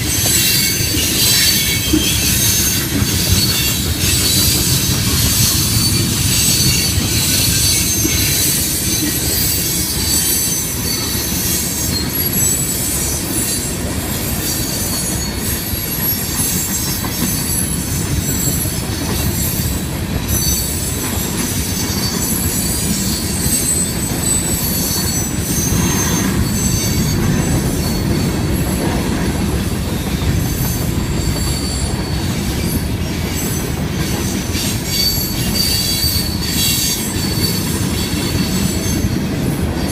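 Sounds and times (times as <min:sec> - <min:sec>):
high-pitched wheel squeal: 0:00.0 - 0:29.3, 0:29.9 - 0:39.5
train cars rumbling past: 0:00.0 - 0:39.9.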